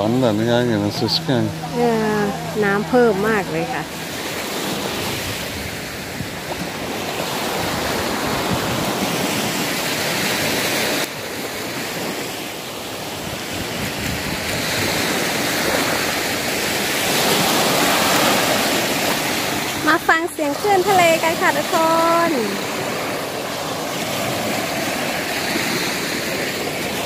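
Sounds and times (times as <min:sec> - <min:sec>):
waves washing on sandy beach: 0:00.0 - 0:27.0.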